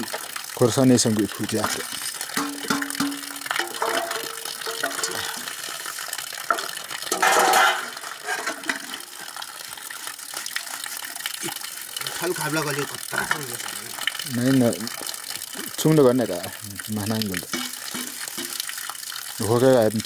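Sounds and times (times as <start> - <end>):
water splashing and running: 0.0 - 20.0.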